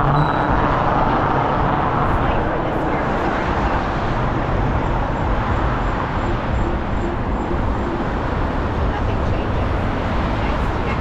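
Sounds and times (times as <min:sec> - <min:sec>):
car tyre and engine rumble: 0:00.0 - 0:11.0
surrounding traffic: 0:00.0 - 0:11.0.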